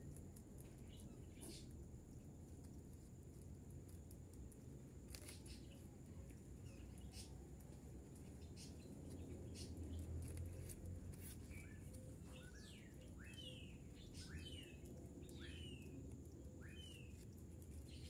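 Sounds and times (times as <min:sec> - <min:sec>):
faint bird chirps: 0:00.0 - 0:02.9, 0:05.1 - 0:18.0
low steady background noise: 0:00.0 - 0:18.0.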